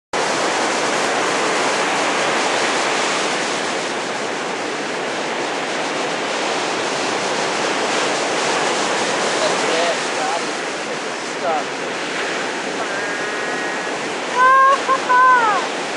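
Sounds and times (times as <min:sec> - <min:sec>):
ocean surf rushing: 0:00.2 - 0:15.9.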